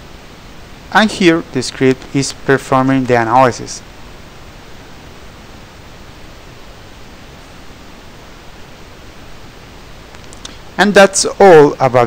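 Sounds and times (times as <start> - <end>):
recording noise floor hiss: 0.0 - 12.0.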